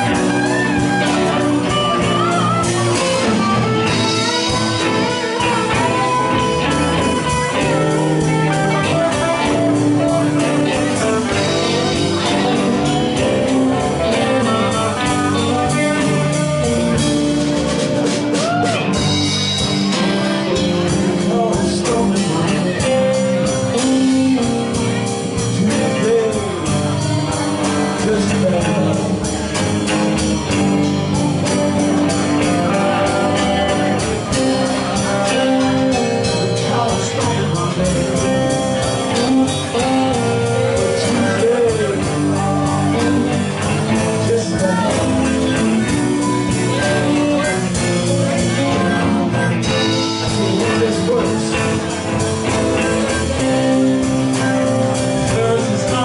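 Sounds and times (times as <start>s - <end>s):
blues rock band playing: 0.0s - 56.0s.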